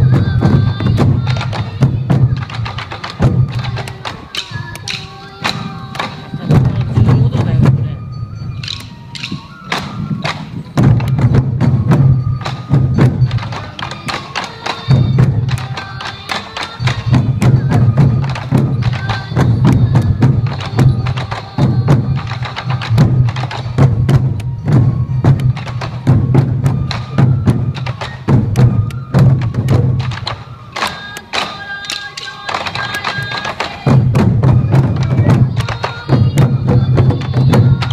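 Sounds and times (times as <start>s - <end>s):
flute-like tones: 0.0s - 37.9s
taiko drums beating: 0.0s - 37.9s.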